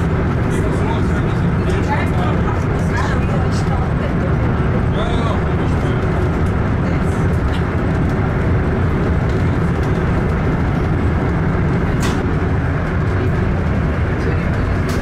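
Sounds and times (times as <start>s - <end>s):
train rumbling in tunnel: 0.0s - 15.0s.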